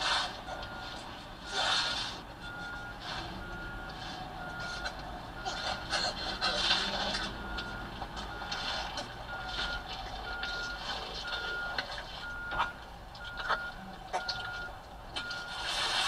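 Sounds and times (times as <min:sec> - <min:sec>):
backup alarm beeping: 0:00.4 - 0:15.8.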